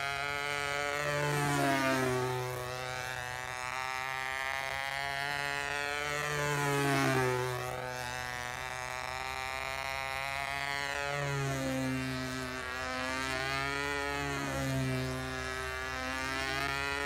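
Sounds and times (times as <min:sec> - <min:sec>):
model airplane engine droning: 0:00.0 - 0:17.0.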